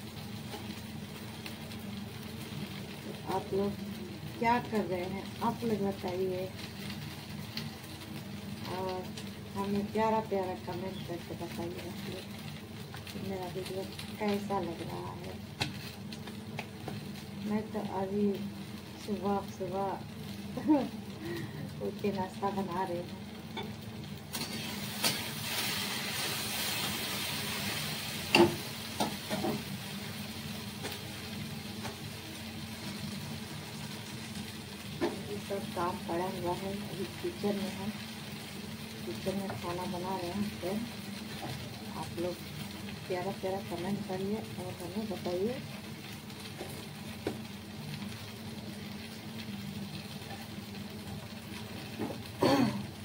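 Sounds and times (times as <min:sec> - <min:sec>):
food sizzling in a frying pan: 0:00.0 - 0:53.0
low mechanical hum: 0:00.0 - 0:53.0.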